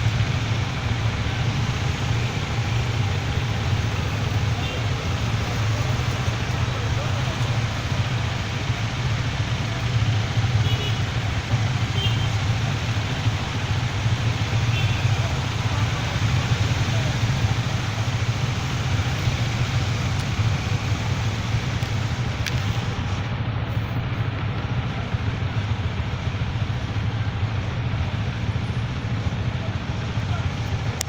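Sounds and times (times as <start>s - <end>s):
motorcycle engine running: 0.0s - 31.0s
road and wind noise: 0.0s - 31.0s.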